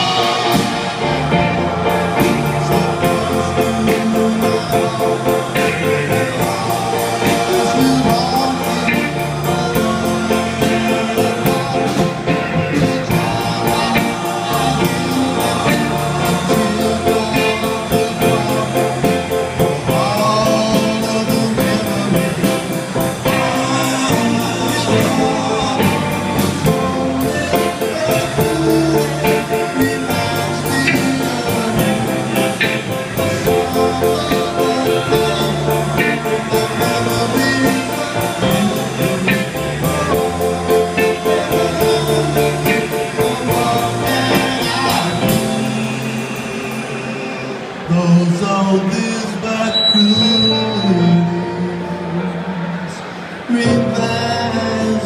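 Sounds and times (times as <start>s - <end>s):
drum kit beat: 0.0s - 47.0s
electric keyboard: 0.0s - 55.0s
person singing: 0.0s - 55.0s.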